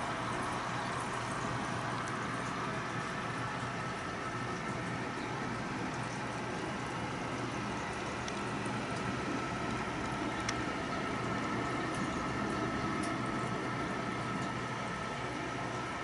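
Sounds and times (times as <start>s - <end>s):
air pump humming: 0.0s - 16.0s
aquarium air stone bubbling: 0.0s - 16.0s.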